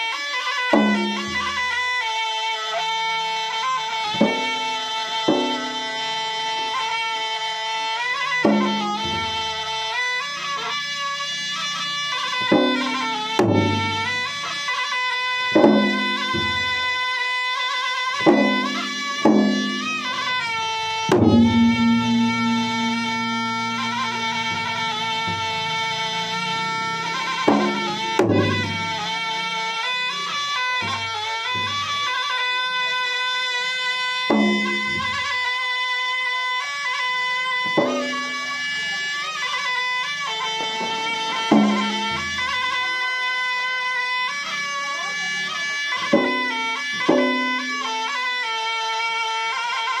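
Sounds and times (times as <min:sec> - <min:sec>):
reed wind instrument melody: 0:00.0 - 0:50.0
heavy drum strokes: 0:00.3 - 0:48.4.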